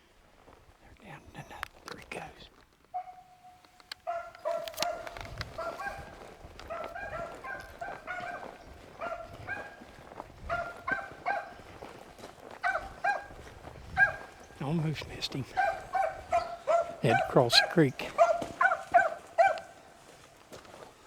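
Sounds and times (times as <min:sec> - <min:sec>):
hounds baying: 0:02.9 - 0:20.7.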